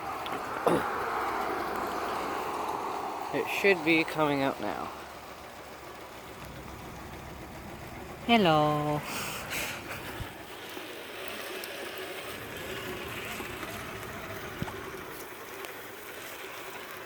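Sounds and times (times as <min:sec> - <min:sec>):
rain hiss: 0:00.0 - 0:17.0
water sloshing: 0:00.0 - 0:17.0.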